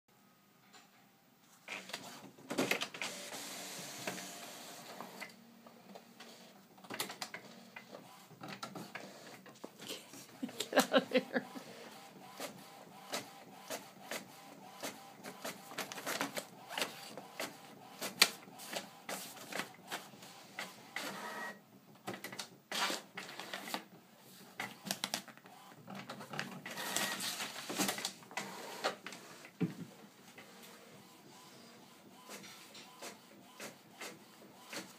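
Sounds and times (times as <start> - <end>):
printer feeding paper: 1.6 - 9.7, 10.5 - 34.9.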